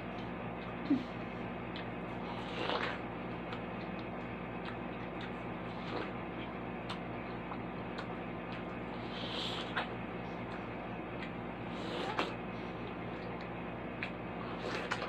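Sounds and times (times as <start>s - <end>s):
steady background hum: 0.0s - 15.0s
clicking chewing sounds: 1.5s - 15.0s.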